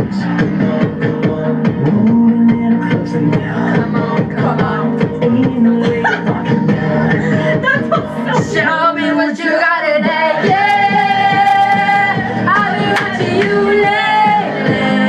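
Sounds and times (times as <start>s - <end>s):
pop song: 0.0s - 15.0s.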